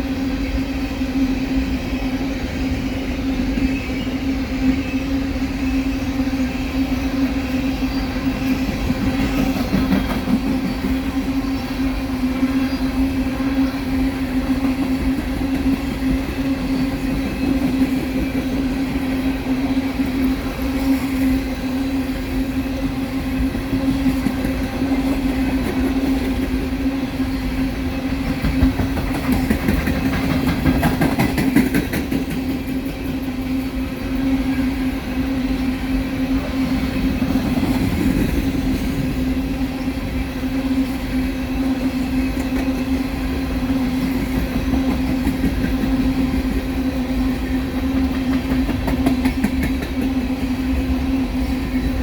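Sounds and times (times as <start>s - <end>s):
train wheels rumbling over rails: 0.0s - 52.0s.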